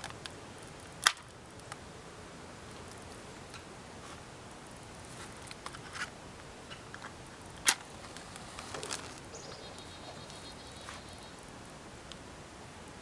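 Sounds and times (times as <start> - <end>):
embers hissing and crackling: 0.0 - 13.0.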